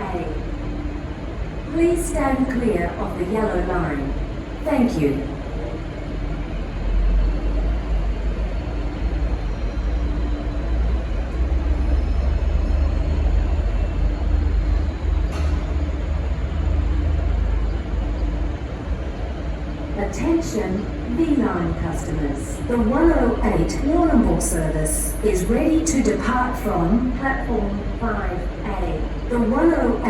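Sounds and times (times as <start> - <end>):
diesel locomotive engine idling: 0.0 - 30.0.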